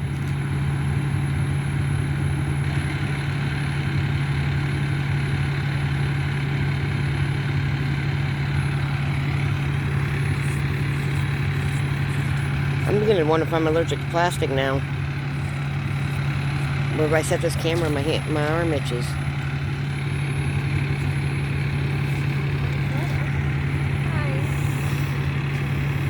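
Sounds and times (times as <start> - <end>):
large engine idling: 0.0 - 26.0.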